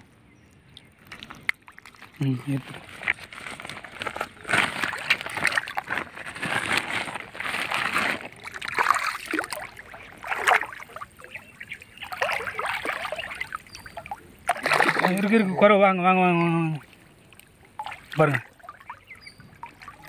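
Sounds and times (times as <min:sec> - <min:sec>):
water sloshing and splashing: 0:00.7 - 0:20.0.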